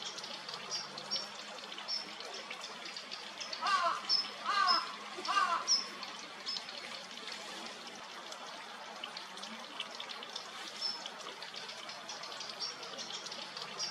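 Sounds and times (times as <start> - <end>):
trickling water: 0.0 - 13.9.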